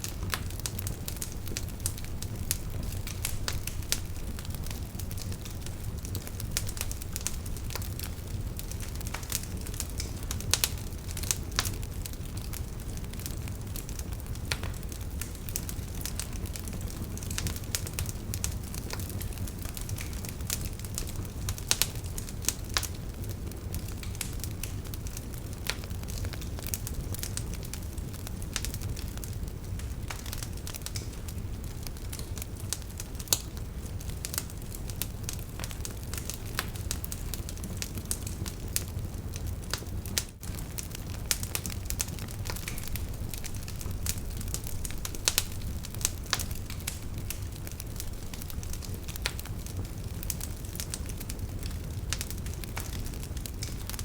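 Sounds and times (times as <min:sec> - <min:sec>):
burning wood crackling: 0:00.0 - 0:54.0
fire flames rumbling: 0:00.0 - 0:54.0.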